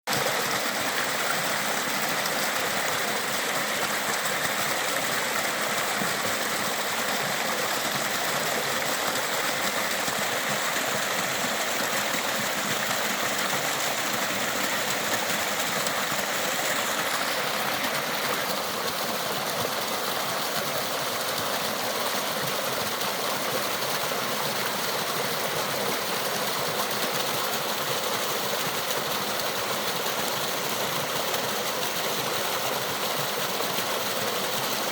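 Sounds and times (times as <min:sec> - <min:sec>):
waterfall rushing and splashing: 0:00.1 - 0:34.9.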